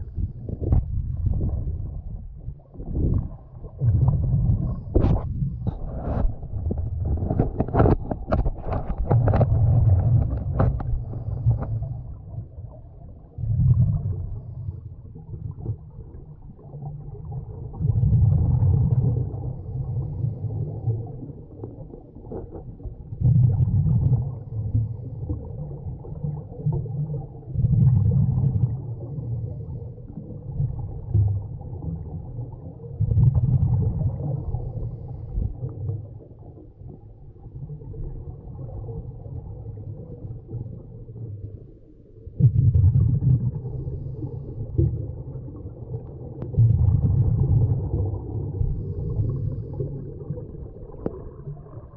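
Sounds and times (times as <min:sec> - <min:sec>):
exhaled bubbles from regulator: 0:00.0 - 0:51.9
underwater water noise: 0:00.0 - 0:51.9.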